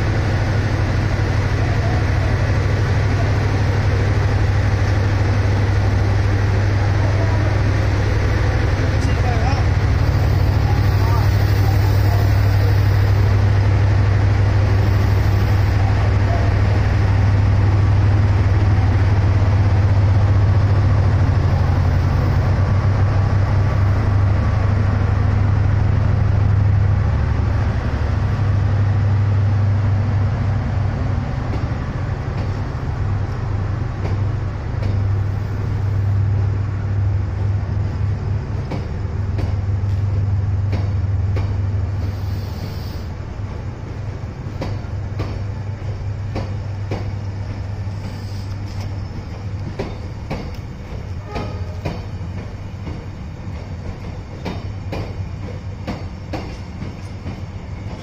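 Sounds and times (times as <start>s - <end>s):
locomotive engine drone: 0.0s - 58.0s
train wheels clicking on rails: 0.0s - 58.0s.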